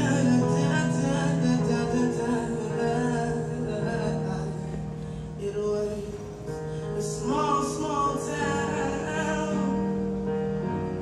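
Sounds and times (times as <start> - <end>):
electric keyboard chords: 0.0 - 11.0.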